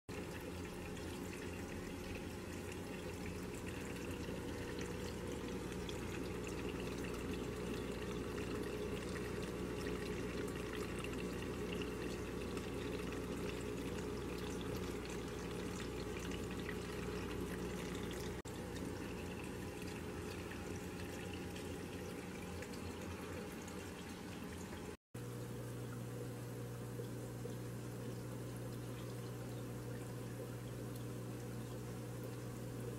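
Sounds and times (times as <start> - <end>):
steady low hum: 0.1 - 32.9
water trickling and splashing: 0.1 - 32.9.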